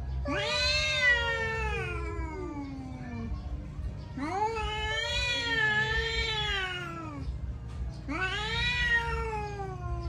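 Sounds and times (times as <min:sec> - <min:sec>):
cat yowling: 0:00.2 - 0:03.4, 0:04.2 - 0:07.3, 0:08.1 - 0:10.0.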